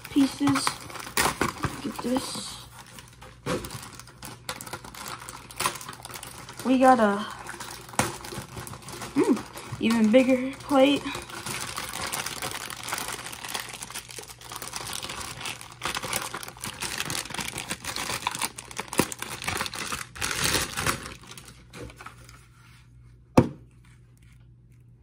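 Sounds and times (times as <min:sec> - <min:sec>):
plastic bag crinkling: 0:00.0 - 0:22.5.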